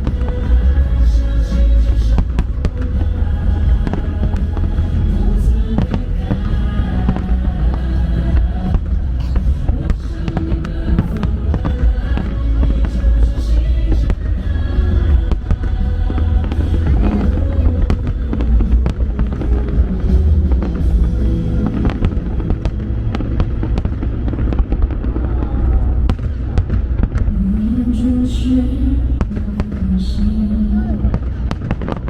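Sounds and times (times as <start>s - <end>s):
fireworks bursting: 0.0s - 32.0s
low rumble: 0.0s - 32.0s
music playing: 0.0s - 32.0s.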